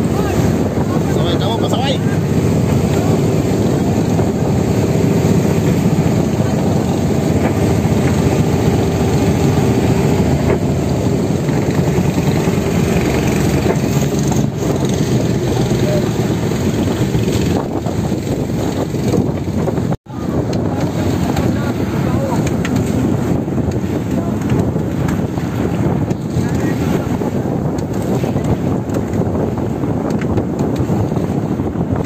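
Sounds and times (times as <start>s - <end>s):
boat engine running: 0.0s - 32.0s
water rushing past hull: 0.0s - 32.0s
wind on microphone: 0.0s - 32.0s.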